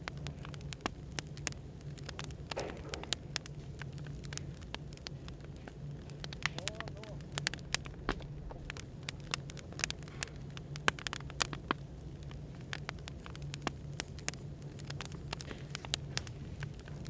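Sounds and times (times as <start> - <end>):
cafe background hum: 0.0 - 17.0
wood fire crackling and popping: 0.0 - 17.0.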